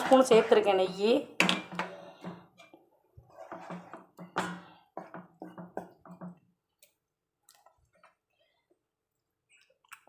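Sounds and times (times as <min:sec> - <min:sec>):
spatula stirring wet mixture: 0:00.0 - 0:10.0.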